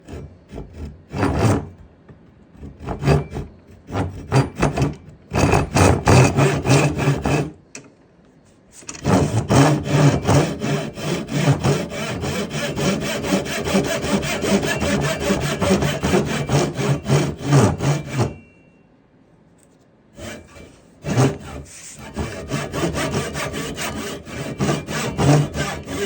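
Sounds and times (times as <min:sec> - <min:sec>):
hand saw cutting wood: 0:00.0 - 0:01.8, 0:02.6 - 0:07.6, 0:08.9 - 0:18.4, 0:20.2 - 0:26.0.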